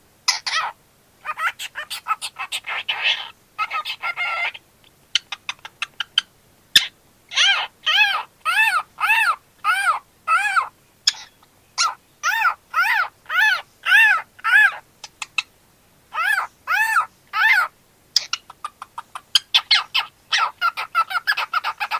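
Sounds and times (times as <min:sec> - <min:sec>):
cockatiel calling: 0:00.3 - 0:15.5, 0:16.1 - 0:21.9.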